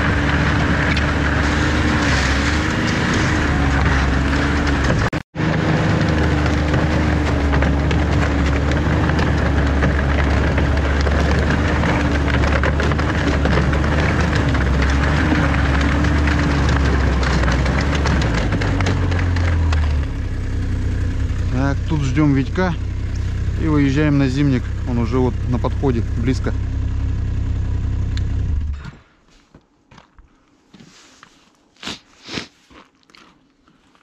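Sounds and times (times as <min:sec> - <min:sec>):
vehicle engine running: 0:00.0 - 0:28.8.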